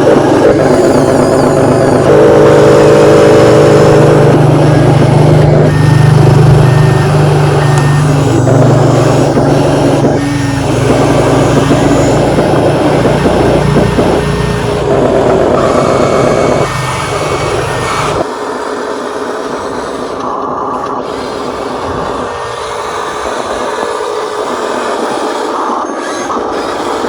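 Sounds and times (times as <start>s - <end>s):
higher hum: 0.0s - 27.0s
toy machine motors whining: 0.0s - 27.0s.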